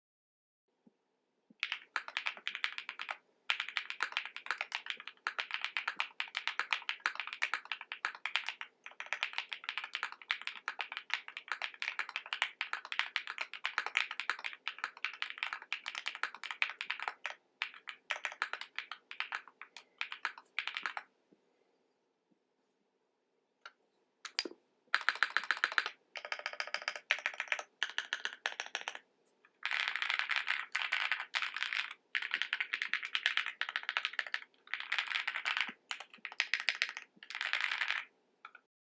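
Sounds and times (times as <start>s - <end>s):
mechanical keyboard typing: 1.6s - 21.0s, 24.3s - 29.0s, 29.6s - 38.7s.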